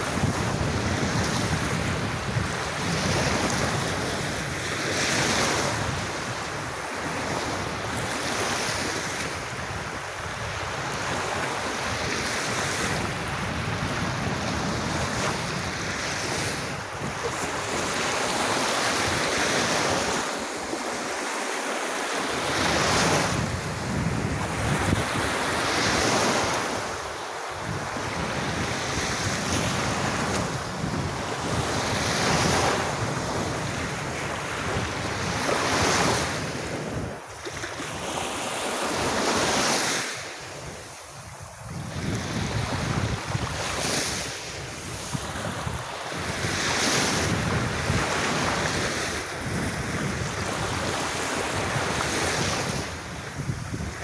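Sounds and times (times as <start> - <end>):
wind rumbling on microphone: 0.0 - 21.2, 22.2 - 54.0
sea waves washing onto beach: 0.0 - 54.0.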